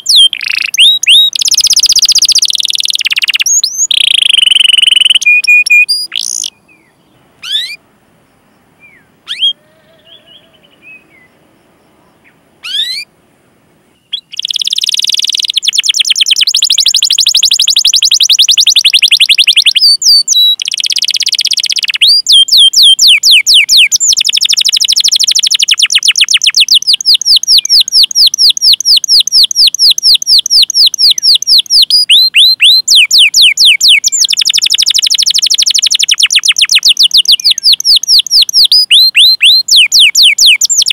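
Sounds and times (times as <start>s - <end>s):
canary singing: 0.0s - 7.8s, 8.8s - 11.4s, 12.0s - 13.1s, 14.0s - 40.9s.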